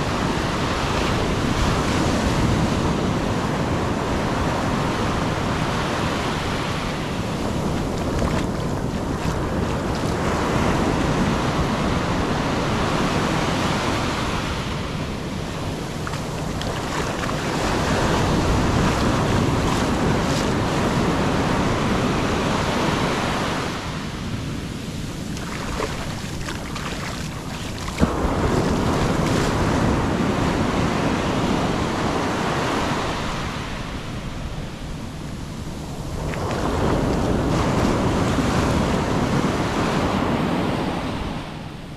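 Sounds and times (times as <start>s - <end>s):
wind buffeting microphone: 0.0s - 41.7s
surf washing over sand: 0.0s - 41.9s.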